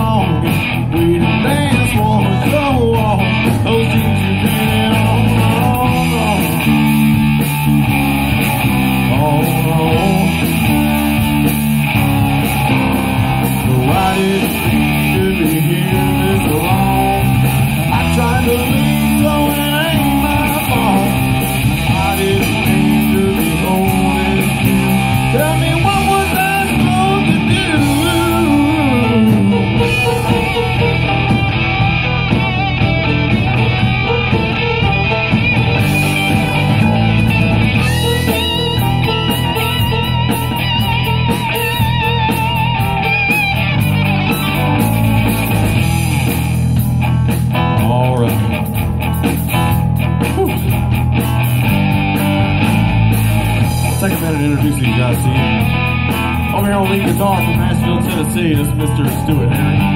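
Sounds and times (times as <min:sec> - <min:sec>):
bass guitar: 0:00.0 - 0:59.9
drums: 0:00.0 - 0:59.9
electric guitars: 0:00.0 - 0:59.9
guitar bending notes: 0:00.0 - 0:59.9.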